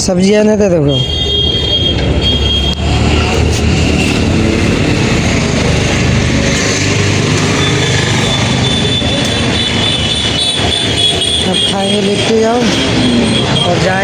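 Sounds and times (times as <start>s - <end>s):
vehicle engine rumbling: 1.4s - 14.0s.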